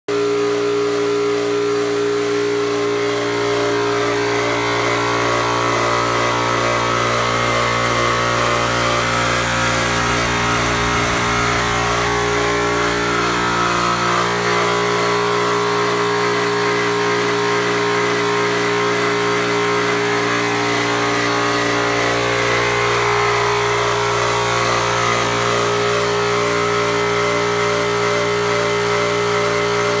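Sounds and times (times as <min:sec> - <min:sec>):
air compressor running: 0:00.1 - 0:30.0.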